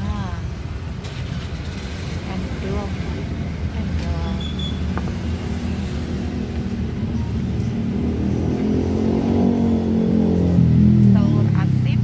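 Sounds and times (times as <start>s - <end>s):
passing traffic engine rumble: 0.0s - 12.0s.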